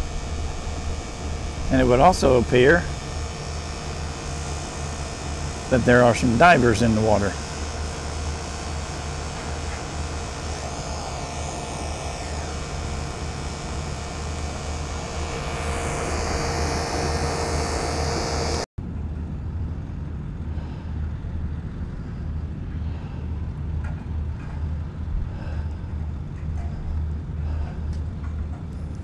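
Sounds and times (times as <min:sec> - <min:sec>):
air conditioner fan rush: 0:00.0 - 0:29.0
low hum: 0:00.0 - 0:29.0.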